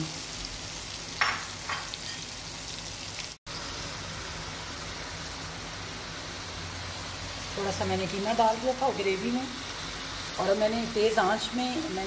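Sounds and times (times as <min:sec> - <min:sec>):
pot sizzling: 0:00.0 - 0:12.0.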